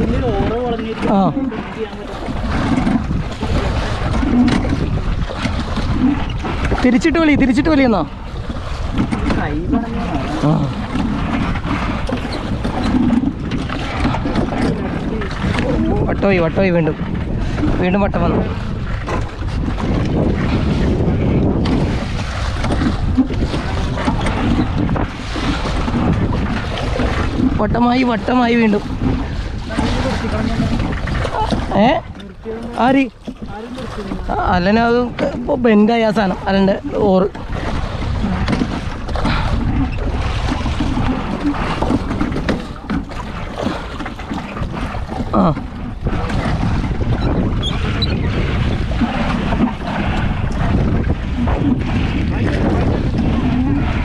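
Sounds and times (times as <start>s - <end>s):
waves splashing around boat: 0.0s - 54.0s
wind buffeting microphone: 0.0s - 54.0s.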